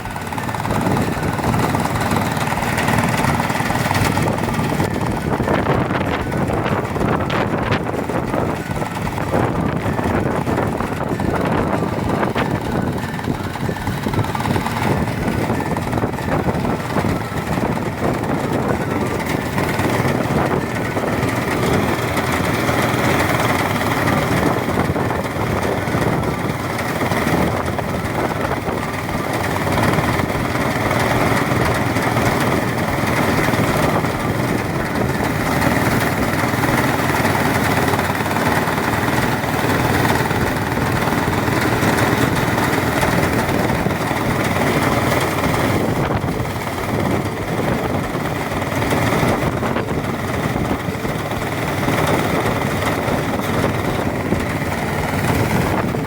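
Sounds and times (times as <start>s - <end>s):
threshing machine running: 0.0s - 56.0s.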